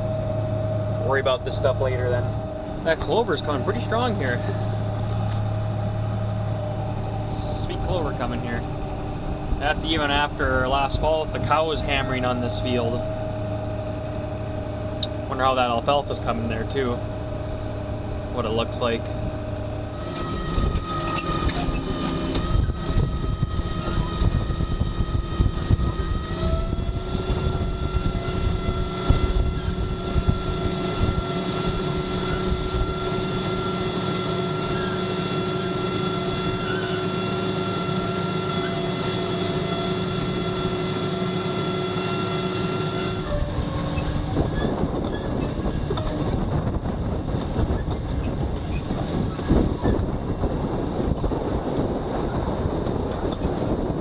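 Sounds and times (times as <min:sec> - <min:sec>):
engine whine: 0:00.0 - 0:54.0
vehicle rumble and rattle: 0:00.0 - 0:54.0.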